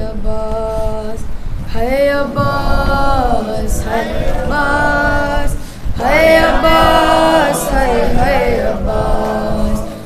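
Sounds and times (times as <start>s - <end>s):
person chanting into microphone: 1.9s - 10.0s.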